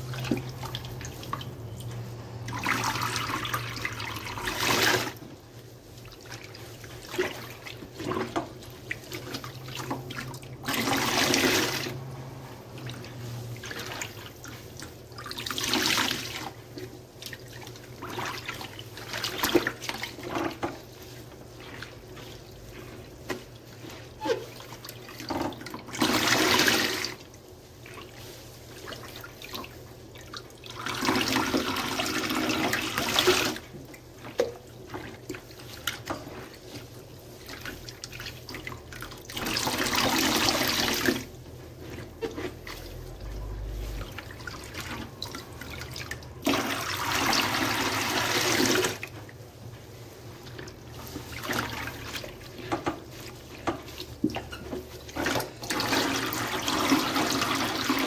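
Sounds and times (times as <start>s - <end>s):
soapy sponges squelching: 0.0s - 58.0s.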